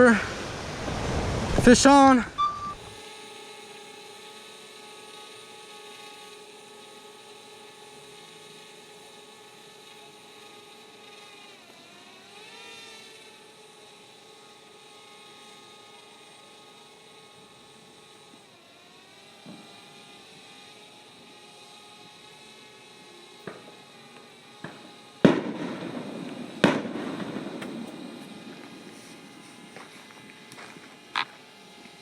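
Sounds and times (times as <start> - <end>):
rotor whine: 0.0 - 32.0.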